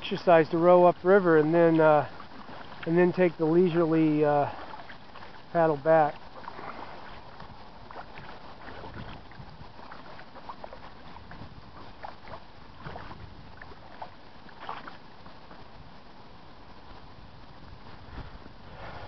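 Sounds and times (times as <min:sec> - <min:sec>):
paddle splashing in water: 0:00.0 - 0:19.0.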